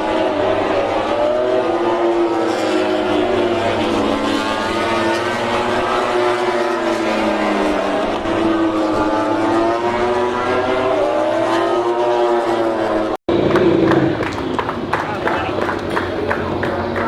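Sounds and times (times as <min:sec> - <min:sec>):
racing motorbike engine revving: 0:00.0 - 0:17.0.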